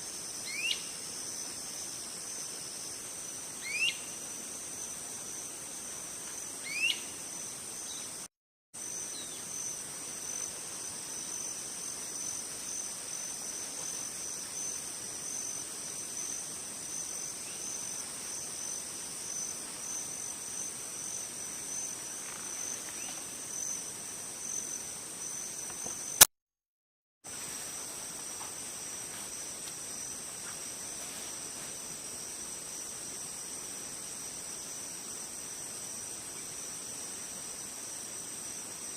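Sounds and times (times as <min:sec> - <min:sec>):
high-pitched insect chorus: 0:00.0 - 0:26.3, 0:27.3 - 0:38.9.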